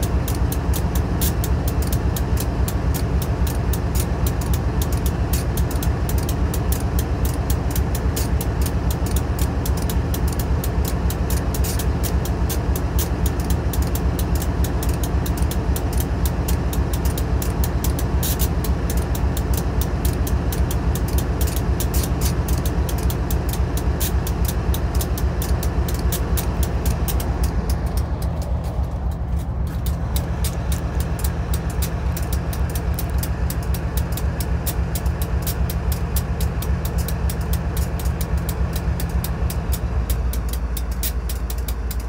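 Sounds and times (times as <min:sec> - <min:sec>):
diesel locomotive engine drone: 0:00.0 - 0:42.0.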